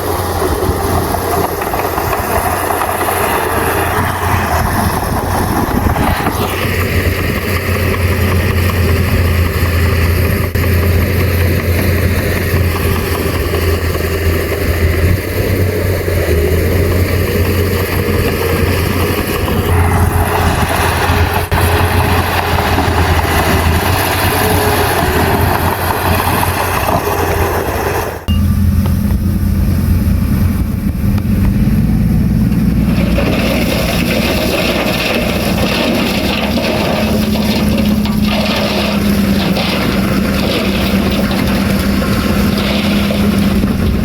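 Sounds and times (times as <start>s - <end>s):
heavy diesel engine under load: 0.0s - 44.0s.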